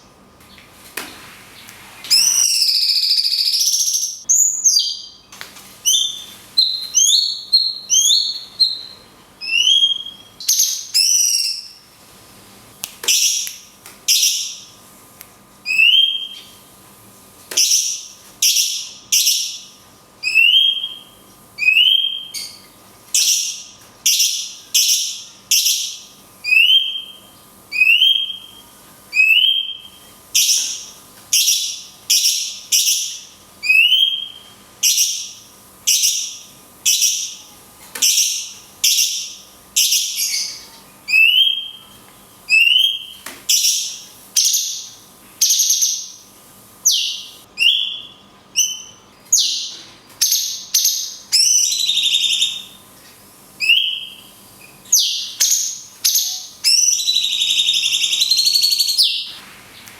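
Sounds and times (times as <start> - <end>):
bird whistled calls: 2.1 - 5.2, 5.9 - 11.8, 15.7 - 16.5, 17.6 - 22.6, 23.2 - 37.4, 38.1 - 41.9, 42.5 - 46.2, 46.8 - 52.8, 53.6 - 59.3.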